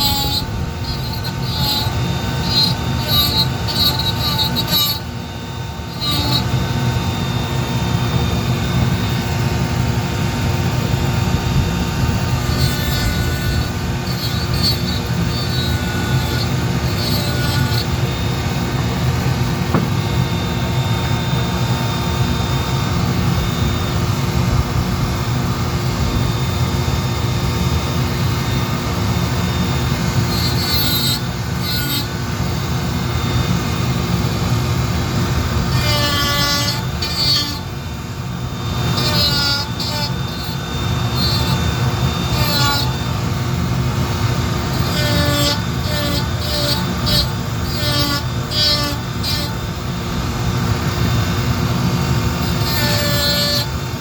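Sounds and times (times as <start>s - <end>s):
power carving tool whining: 0.0s - 54.0s.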